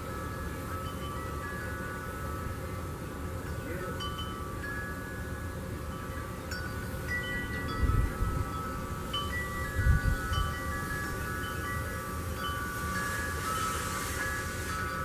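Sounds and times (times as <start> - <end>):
metal wind chimes ringing: 0.0 - 15.0.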